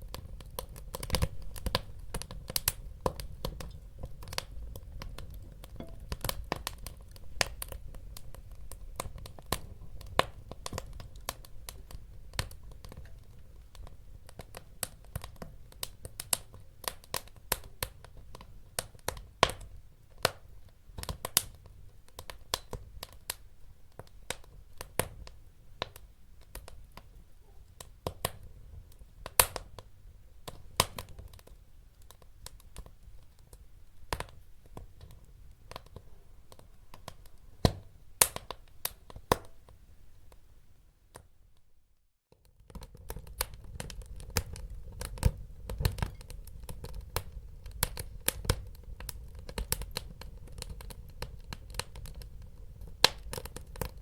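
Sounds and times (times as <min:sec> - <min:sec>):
fire popping and snapping: 0:00.0 - 0:40.5, 0:42.3 - 0:54.0
low rumble of burning: 0:00.0 - 0:40.6, 0:42.3 - 0:54.0
wood fire crackling: 0:00.0 - 0:41.3, 0:42.3 - 0:54.0.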